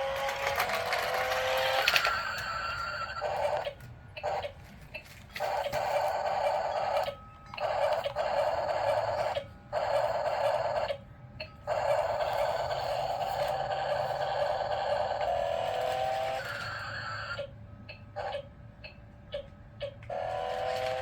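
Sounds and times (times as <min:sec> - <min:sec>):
toy electric motor whirring: 0:00.0 - 0:11.0, 0:11.6 - 0:17.5, 0:20.0 - 0:21.0.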